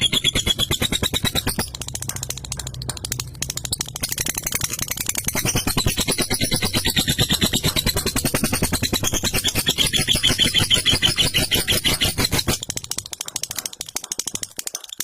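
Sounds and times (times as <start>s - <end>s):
lovebird chattering trill: 0.0s - 1.8s, 3.4s - 13.6s.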